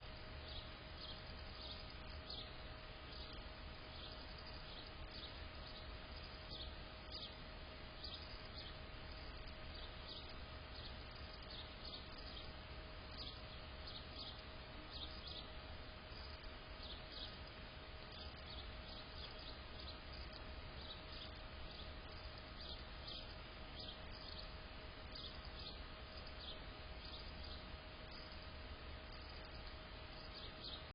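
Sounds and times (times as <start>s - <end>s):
constant hum: 0.0s - 30.9s
steady hiss: 0.0s - 30.9s.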